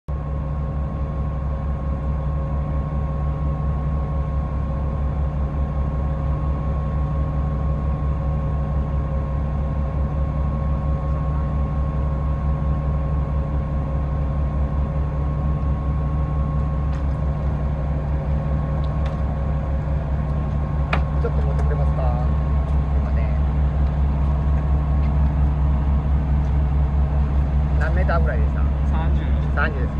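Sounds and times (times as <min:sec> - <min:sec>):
boat engine droning: 0:00.1 - 0:29.9
faint steady whine: 0:00.1 - 0:29.9.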